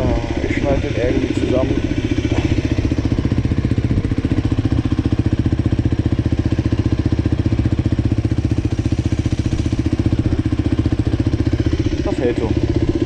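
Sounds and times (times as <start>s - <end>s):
motorcycle idling: 0.0s - 13.0s.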